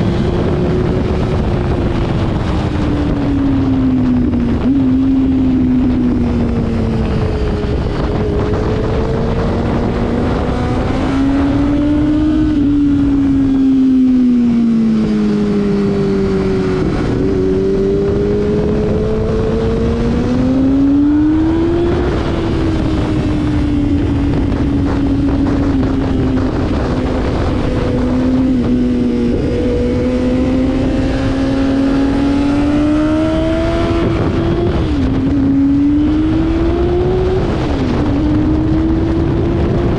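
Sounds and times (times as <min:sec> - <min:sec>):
motorcycle engine revving at speed: 0:00.0 - 0:39.9
wind rushing: 0:00.0 - 0:39.9.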